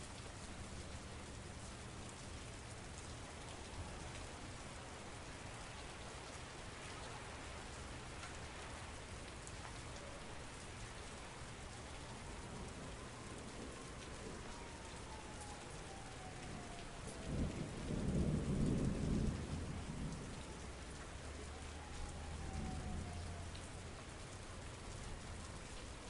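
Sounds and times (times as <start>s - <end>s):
dense rain hiss: 0.0s - 26.0s
sharp raindrop ticks: 0.0s - 26.0s.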